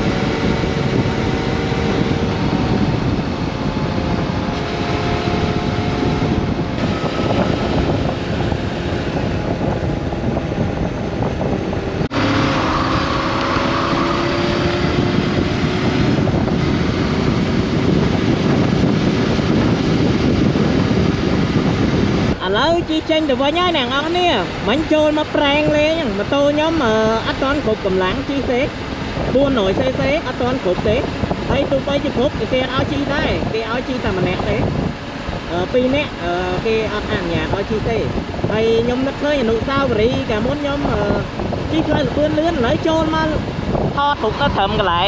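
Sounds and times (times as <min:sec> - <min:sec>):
motorcycle engine cruising: 0:00.0 - 0:45.0
wind and road noise: 0:00.0 - 0:45.0.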